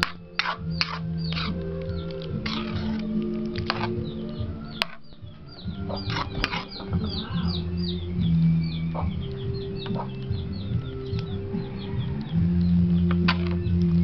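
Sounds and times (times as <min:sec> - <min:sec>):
background music: 0:00.0 - 0:14.0
bird chirping: 0:00.0 - 0:14.0.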